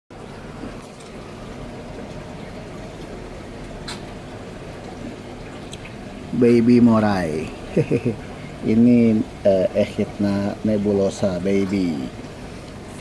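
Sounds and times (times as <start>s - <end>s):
aquarium water bubbling: 0.1s - 13.0s.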